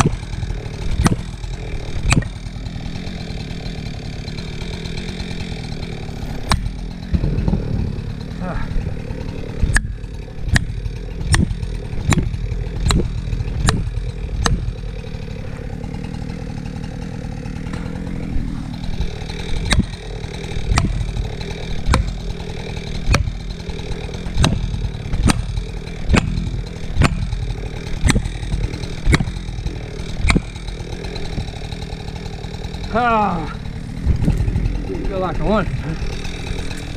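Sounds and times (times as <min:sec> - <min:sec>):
blows driving a wedge: 0:00.0 - 0:36.9
chainsaw idling: 0:00.0 - 0:36.9.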